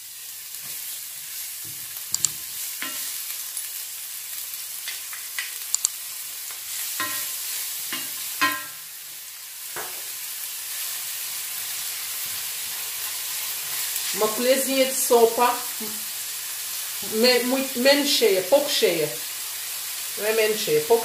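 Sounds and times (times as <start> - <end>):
onion and garlic sizzling in oil: 0.0 - 21.0.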